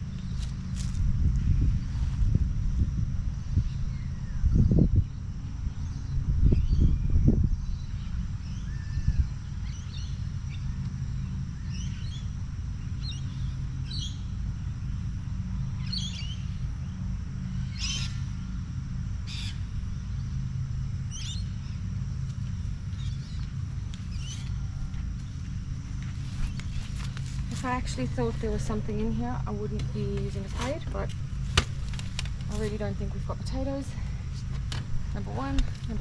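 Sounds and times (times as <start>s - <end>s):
low rumble: 0.0s - 36.0s
birds chirping: 5.8s - 18.6s, 19.2s - 36.0s.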